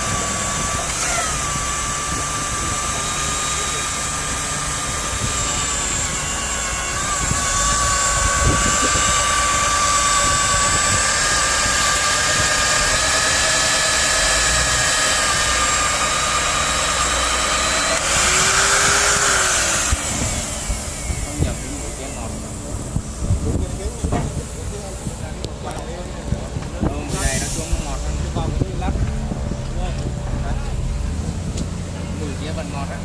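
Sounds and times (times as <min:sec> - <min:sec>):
magnetic drill motor whine: 0:00.0 - 0:32.2
loud hissing: 0:00.0 - 0:33.0.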